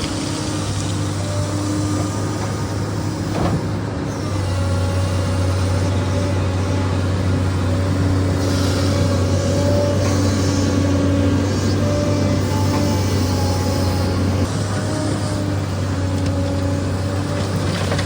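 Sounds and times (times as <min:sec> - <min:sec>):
excavator diesel engine: 0:00.0 - 0:18.0.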